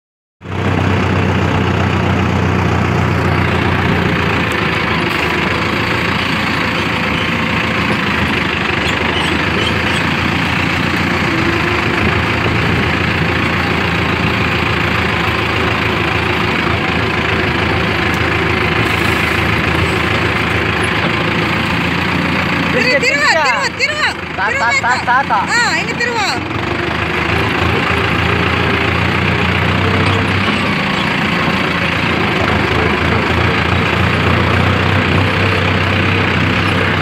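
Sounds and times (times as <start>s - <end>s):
tractor diesel engine running: 0.4s - 37.0s.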